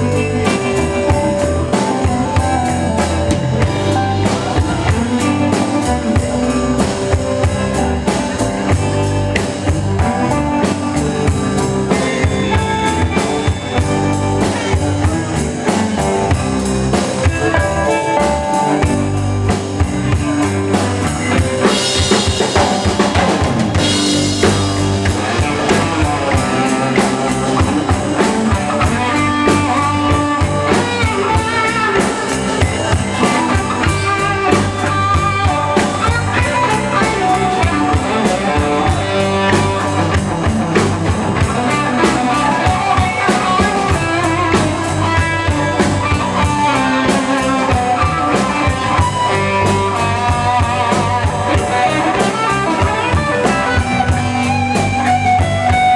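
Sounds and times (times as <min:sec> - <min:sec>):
guitar melody: 0:00.0 - 0:55.9
live band playing blues rock: 0:00.0 - 0:55.9.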